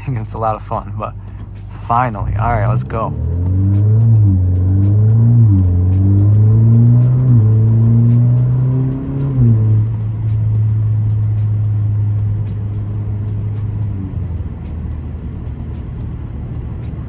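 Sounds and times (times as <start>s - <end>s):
car engine accelerating through gears: 0.0s - 17.0s.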